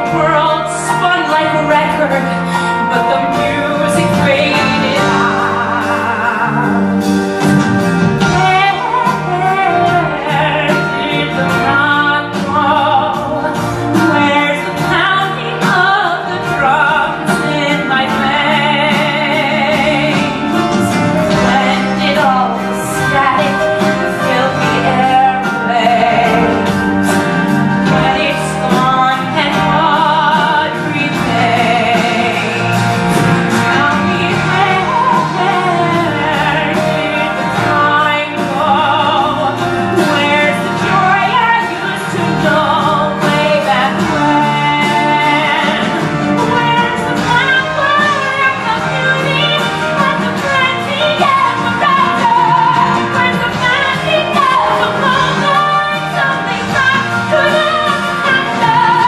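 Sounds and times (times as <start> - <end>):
instrumental accompaniment: 0.0 - 59.0
woman singing with vibrato: 0.0 - 59.0.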